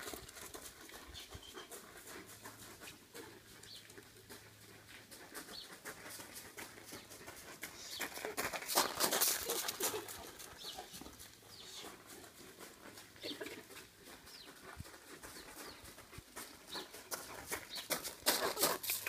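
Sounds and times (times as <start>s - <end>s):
footsteps crunching on gravel: 3.7s - 19.0s.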